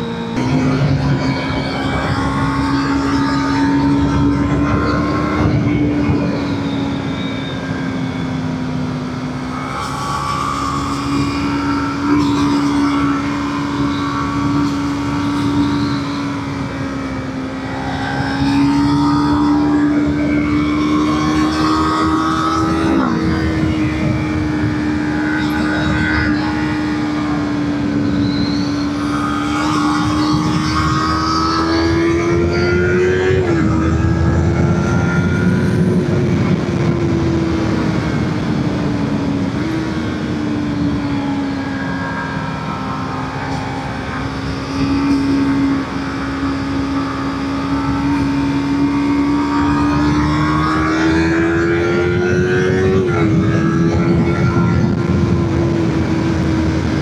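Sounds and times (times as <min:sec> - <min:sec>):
motorcycle engine running: 0:00.0 - 0:57.0
steady rushing noise: 0:00.0 - 0:57.0.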